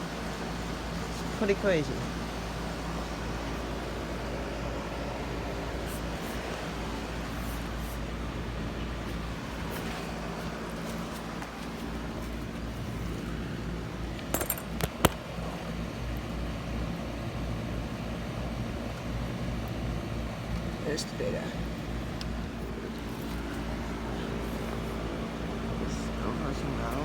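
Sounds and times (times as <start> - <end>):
heat pump humming: 0.0 - 27.0.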